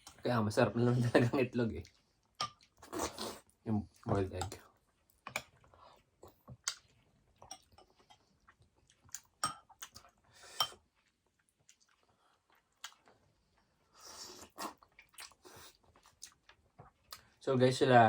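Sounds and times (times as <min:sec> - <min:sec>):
person chewing food: 0:01.8 - 0:17.4.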